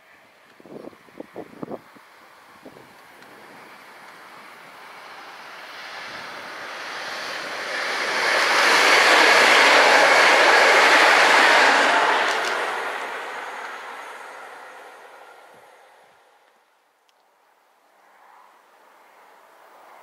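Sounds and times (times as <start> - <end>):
train passing at speed: 0.0 - 16.7.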